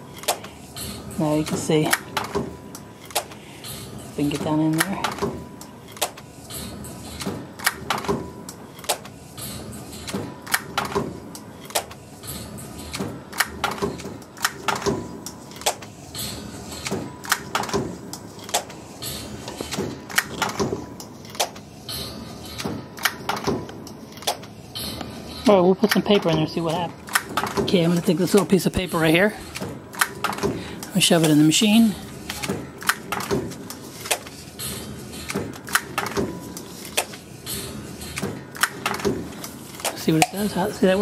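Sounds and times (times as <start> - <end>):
machine clacking: 0.0 - 41.0.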